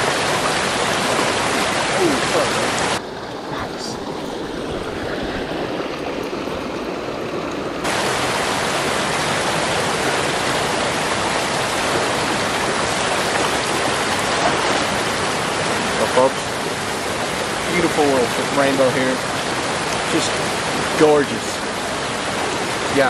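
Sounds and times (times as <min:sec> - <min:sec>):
creek rushing over rocks: 0:00.0 - 0:23.0.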